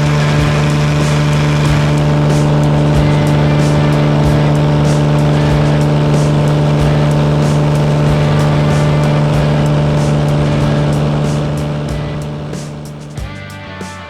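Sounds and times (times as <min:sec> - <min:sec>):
propeller plane engine drone: 0:00.0 - 0:14.0.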